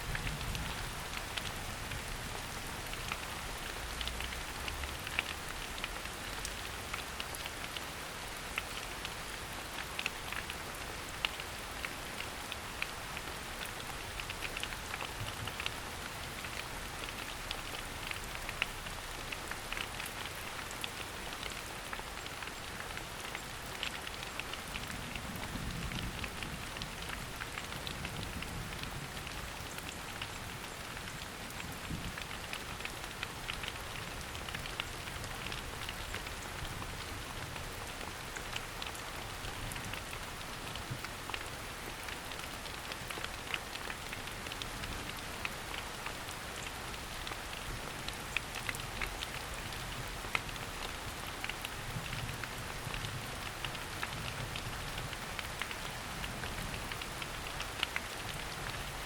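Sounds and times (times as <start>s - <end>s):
rain falling in a forest: 0.0s - 59.0s
raindrops ticking: 0.0s - 59.0s.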